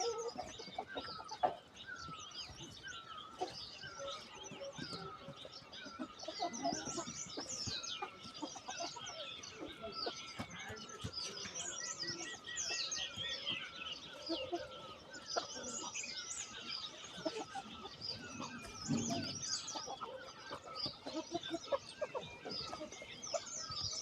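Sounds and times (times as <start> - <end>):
chickens clucking: 0.0 - 24.0
high chirping calls: 0.0 - 24.0.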